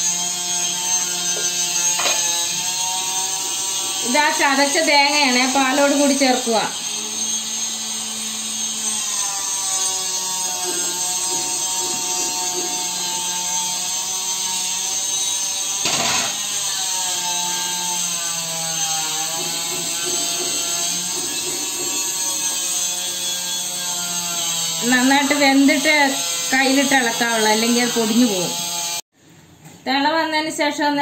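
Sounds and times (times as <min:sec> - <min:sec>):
small motor humming: 0:00.0 - 0:29.0.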